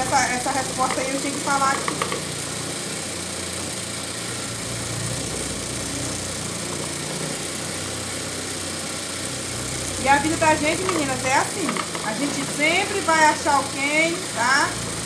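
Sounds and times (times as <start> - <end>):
sewing machine humming: 0.0 - 15.0.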